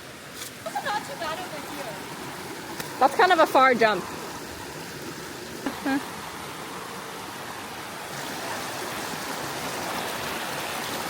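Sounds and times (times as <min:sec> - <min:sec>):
flowing creek water: 0:00.0 - 0:11.0.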